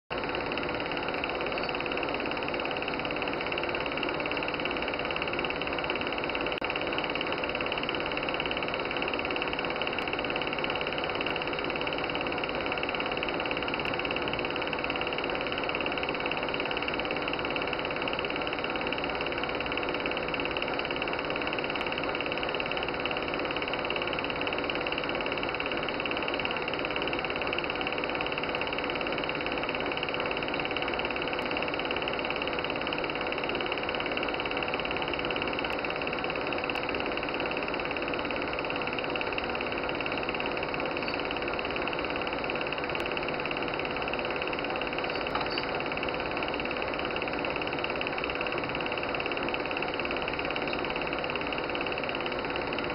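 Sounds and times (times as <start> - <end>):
film projector running: 0.1 - 52.9.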